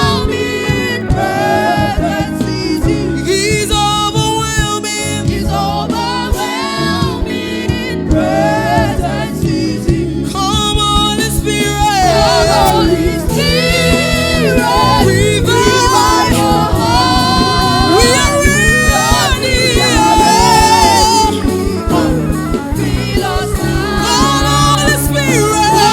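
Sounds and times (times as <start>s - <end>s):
band accompaniment: 0.0s - 25.9s
voices singing held notes: 0.0s - 25.9s.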